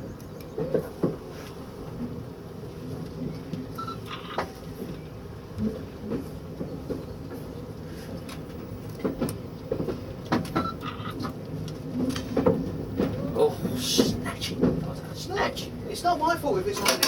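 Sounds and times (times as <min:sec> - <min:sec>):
train cab rumble: 0:00.0 - 0:17.0.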